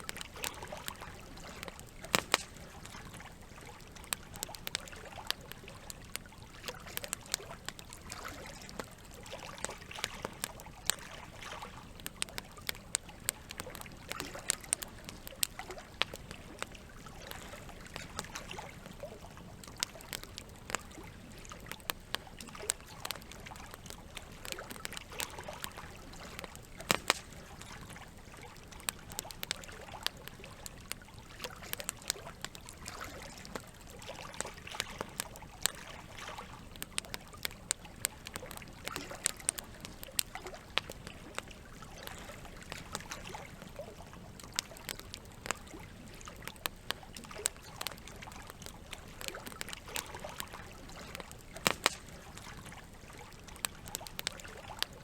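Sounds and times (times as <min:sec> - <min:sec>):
campfire crackling and popping: 0:00.0 - 0:55.0
running water trickling: 0:00.0 - 0:55.0.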